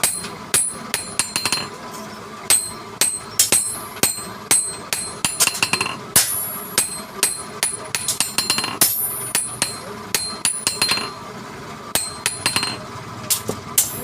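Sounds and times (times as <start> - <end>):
hammer striking metal: 0.0 - 1.8, 2.5 - 11.2, 11.9 - 14.0.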